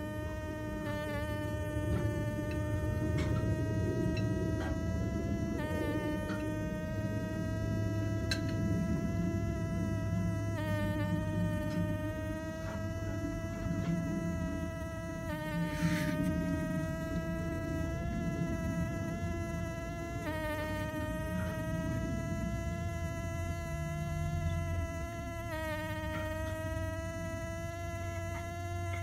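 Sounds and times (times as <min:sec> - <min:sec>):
bumblebee buzzing: 0:00.0 - 0:29.0.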